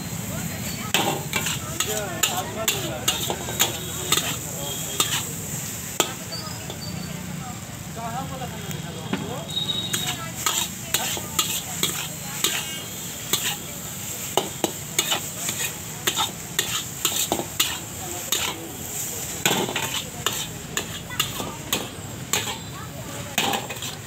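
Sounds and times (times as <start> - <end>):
frying sizzle: 0.0 - 24.0
metal spatula scraping a wok: 0.6 - 7.0, 9.8 - 24.0.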